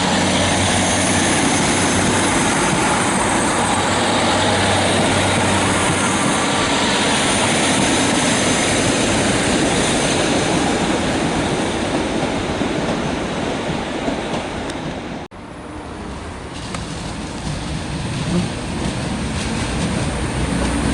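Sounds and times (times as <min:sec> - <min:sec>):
train wheels on rail: 0:00.0 - 0:20.9.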